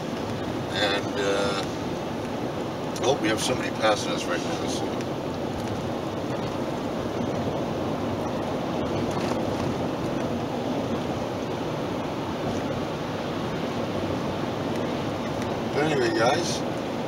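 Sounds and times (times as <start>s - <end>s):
car road noise at highway speed: 0.0s - 17.0s.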